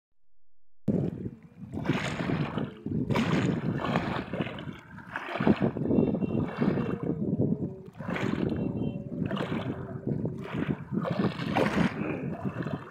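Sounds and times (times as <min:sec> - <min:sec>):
small waves lapping: 0:00.9 - 0:12.9.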